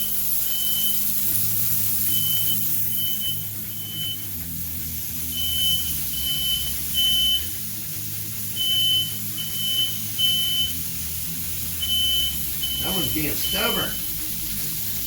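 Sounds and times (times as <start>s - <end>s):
smoke alarm beeping: 0.0s - 7.8s, 8.4s - 14.2s.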